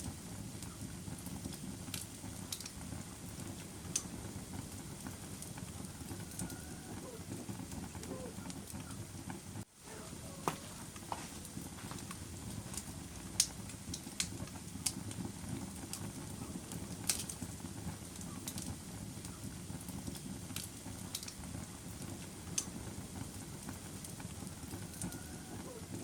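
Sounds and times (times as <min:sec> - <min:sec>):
burning wood crackling and popping: 0:00.0 - 0:26.0
low rush of flames: 0:00.0 - 0:26.0.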